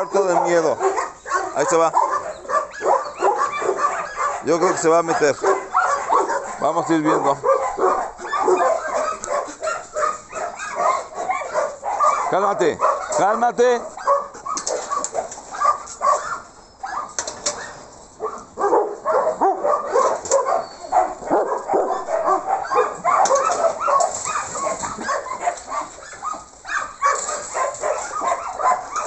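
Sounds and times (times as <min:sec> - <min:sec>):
dogs barking and yipping: 0:00.0 - 0:29.0.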